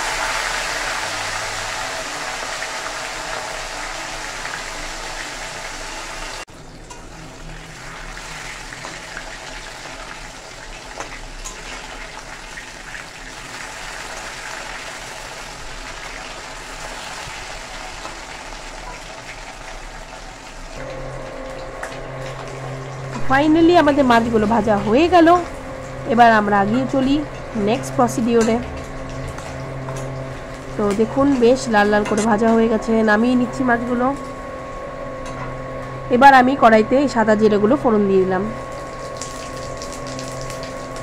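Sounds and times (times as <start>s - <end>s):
fish sizzling in hot oil: 0.0s - 32.4s, 38.5s - 41.0s
kitchen fan rushing: 0.0s - 41.0s.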